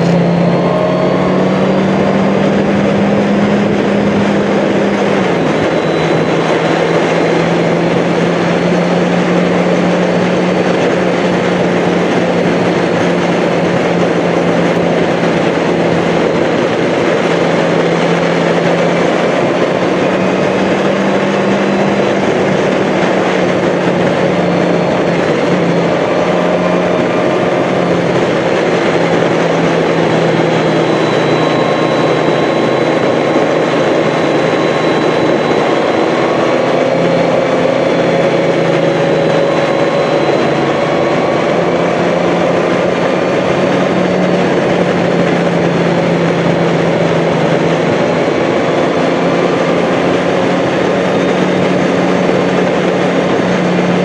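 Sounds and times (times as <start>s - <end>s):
motorcycle engine cruising: 0.0s - 54.0s
wind and road noise: 0.0s - 54.0s.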